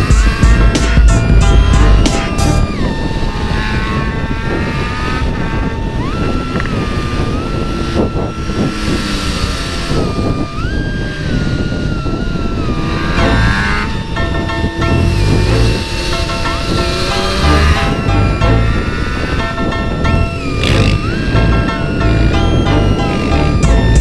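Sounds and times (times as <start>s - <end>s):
motorcycle engine: 0.0s - 24.0s
wind rushing: 0.0s - 24.0s.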